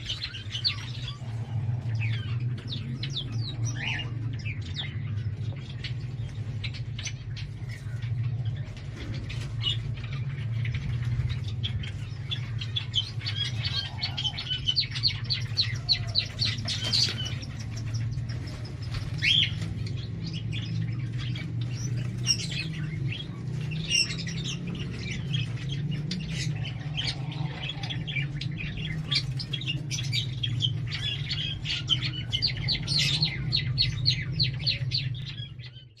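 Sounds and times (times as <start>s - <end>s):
low steady hum: 0.0s - 36.0s
small birds chirping: 0.0s - 36.0s.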